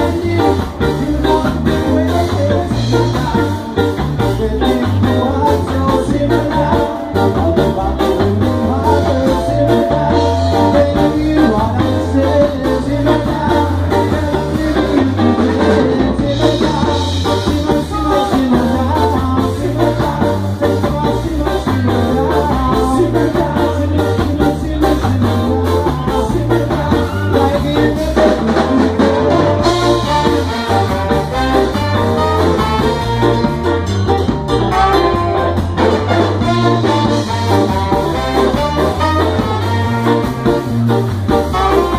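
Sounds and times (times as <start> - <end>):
ska band playing: 0.0 - 41.9.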